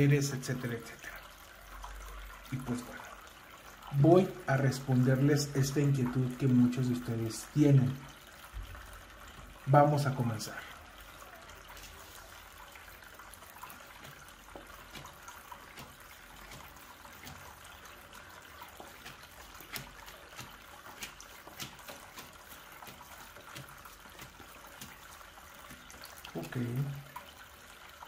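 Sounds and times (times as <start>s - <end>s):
fountain trickling: 0.0s - 28.0s.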